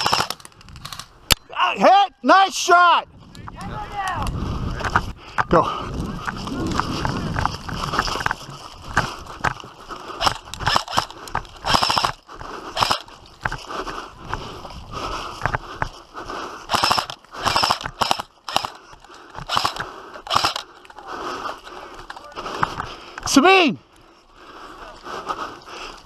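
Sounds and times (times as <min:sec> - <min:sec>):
footsteps: 0:03.2 - 0:26.0.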